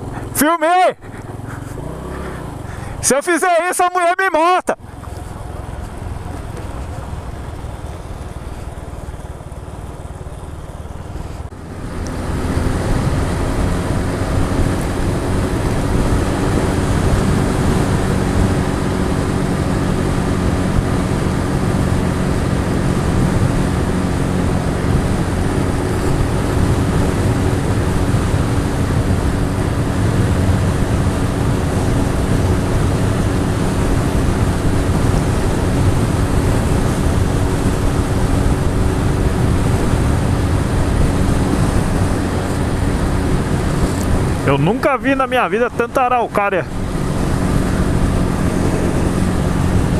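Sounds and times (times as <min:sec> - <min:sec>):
motorcycle engine running: 0:00.0 - 0:03.1, 0:04.8 - 0:49.9
road noise: 0:00.0 - 0:49.9.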